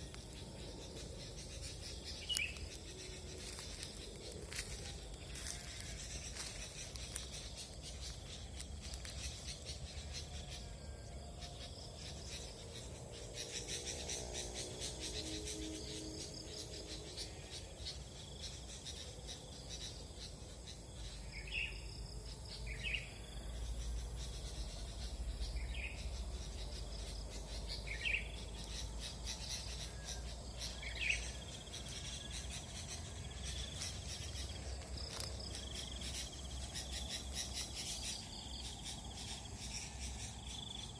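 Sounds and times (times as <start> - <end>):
chirring insects: 0.0 - 40.9.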